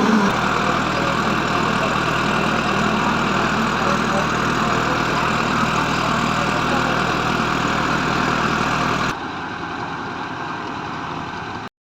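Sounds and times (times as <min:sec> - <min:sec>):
tractor engine running: 0:00.0 - 0:11.7.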